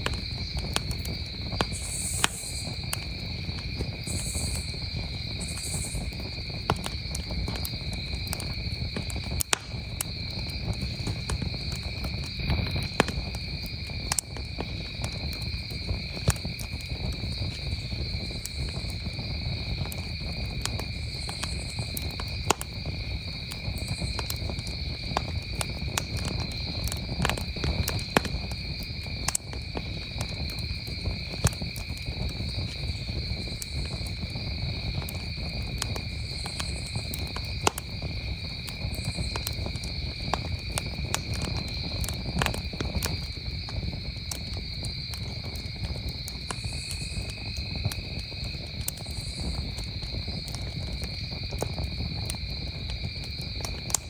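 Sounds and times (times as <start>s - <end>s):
campfire crackling and popping: 0.0s - 54.0s
crickets trilling: 0.0s - 54.0s.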